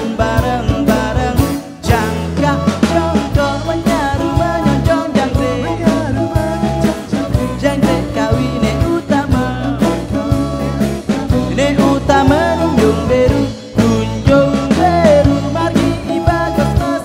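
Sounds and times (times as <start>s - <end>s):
fusion rock band playing: 0.0s - 17.0s
steady drum beat: 0.0s - 17.0s.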